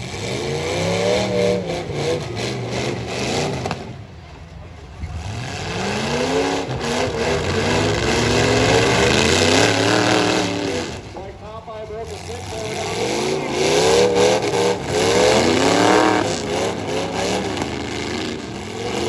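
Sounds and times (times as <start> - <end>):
truck engines revving hard: 0.0 - 19.0.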